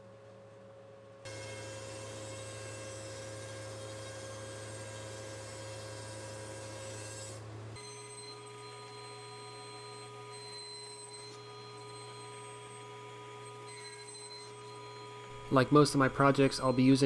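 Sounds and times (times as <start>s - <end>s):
thickness planer running: 1.3s - 17.0s.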